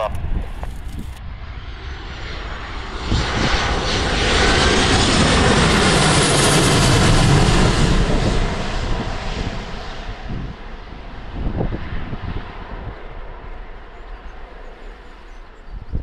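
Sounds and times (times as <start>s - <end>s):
aircraft engine passing: 0.0s - 16.0s.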